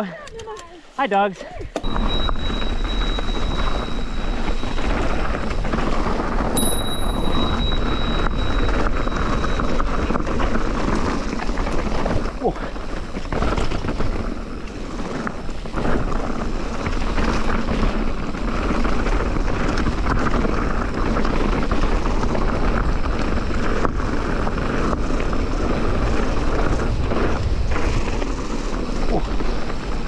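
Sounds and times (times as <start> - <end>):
tyres on dirt trail: 0.0 - 30.0.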